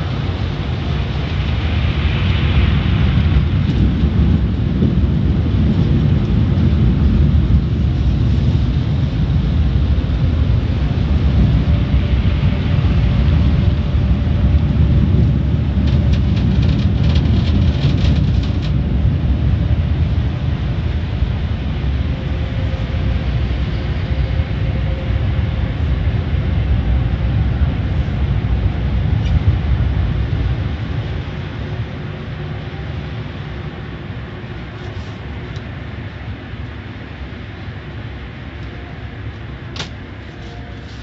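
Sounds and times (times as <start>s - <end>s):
car wash water spray rumble: 0.0s - 41.0s.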